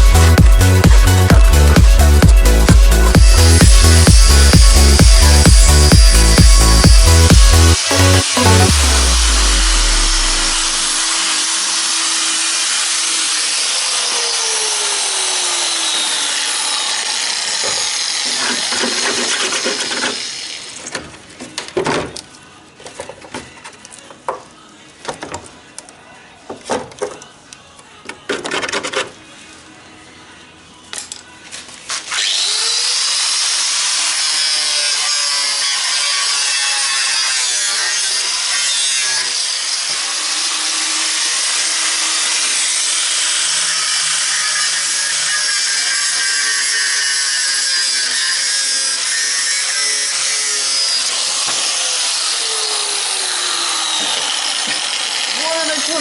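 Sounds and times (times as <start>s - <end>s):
handheld power tool whining: 0.0s - 21.2s, 31.9s - 56.0s.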